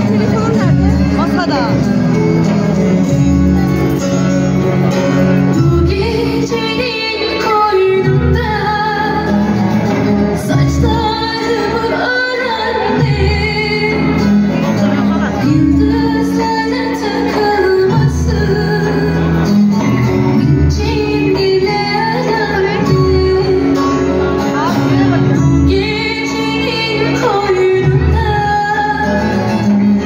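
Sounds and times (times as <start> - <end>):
woman singing: 5.4 - 30.0.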